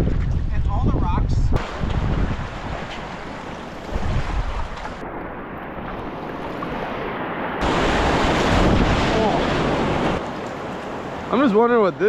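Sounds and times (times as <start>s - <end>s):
wind buffeting microphone: 0.0s - 11.2s
creek water rushing: 1.6s - 12.0s.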